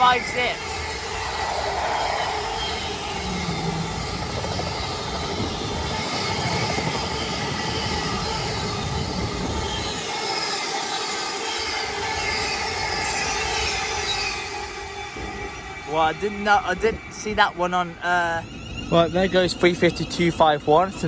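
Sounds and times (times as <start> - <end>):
freight wagons rolling: 0.0 - 10.4, 13.2 - 21.0
diesel locomotive rumble: 0.0 - 10.5, 11.4 - 21.0.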